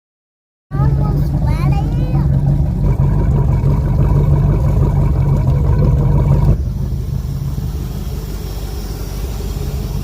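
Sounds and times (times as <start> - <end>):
motorboat engine running: 0.7 - 10.0.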